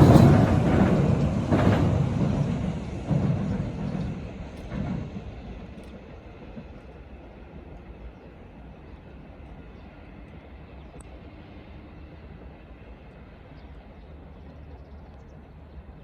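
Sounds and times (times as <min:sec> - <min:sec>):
electric train running past: 0:00.0 - 0:16.0.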